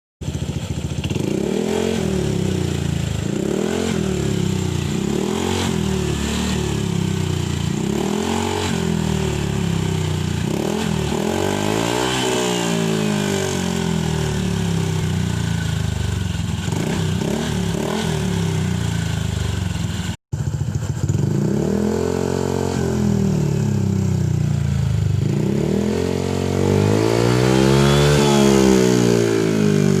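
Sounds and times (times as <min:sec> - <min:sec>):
scooter engine revving: 0:00.2 - 0:30.0.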